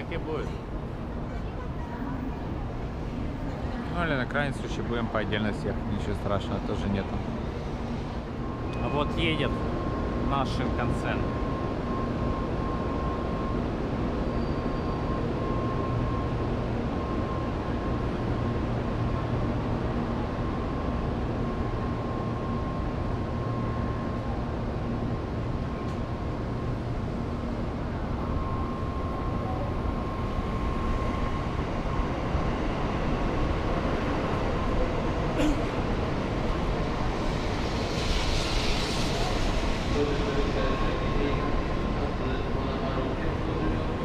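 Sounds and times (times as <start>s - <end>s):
train rumble with faint whine: 0.0s - 44.0s.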